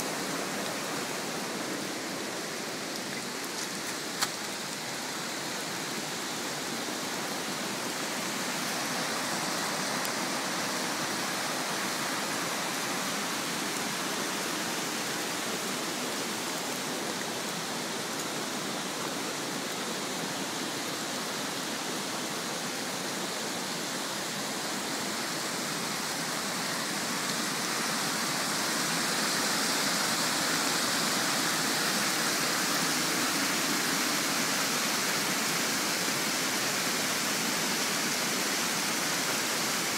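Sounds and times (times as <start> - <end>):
stream rushing and splashing: 0.0 - 39.9.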